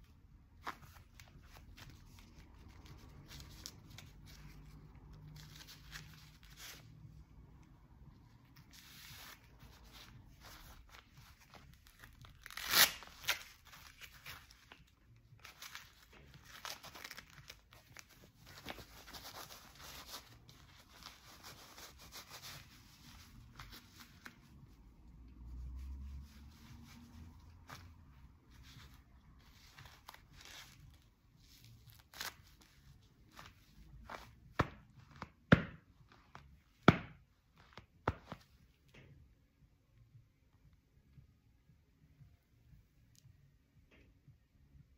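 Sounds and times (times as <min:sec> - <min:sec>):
gloves rustling and rubbing: 0:00.0 - 0:38.9.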